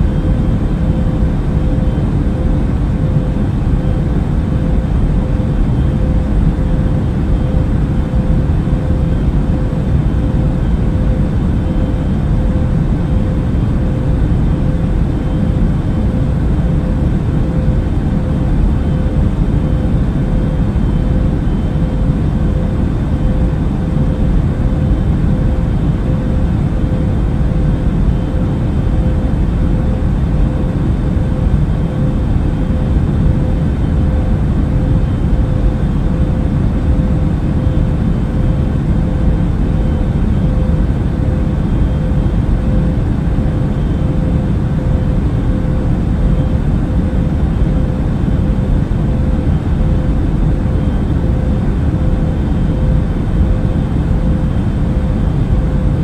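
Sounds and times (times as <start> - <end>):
airplane cabin rumble: 0.0 - 56.0
constant hum tone: 0.0 - 56.0.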